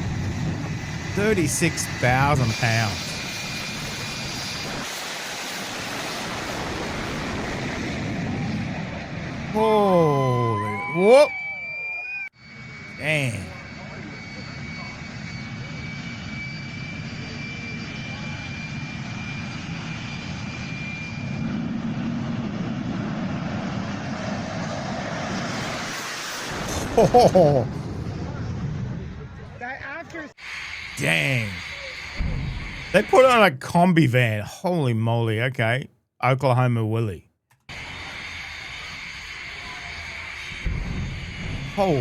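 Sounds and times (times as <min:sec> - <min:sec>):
jet engine running: 0:00.0 - 0:29.4, 0:30.4 - 0:33.6, 0:37.7 - 0:42.0.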